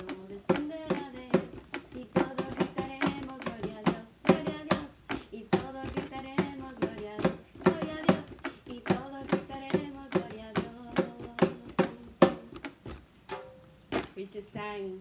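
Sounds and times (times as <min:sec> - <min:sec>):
woman singing: 0:00.0 - 0:12.8, 0:14.0 - 0:15.0.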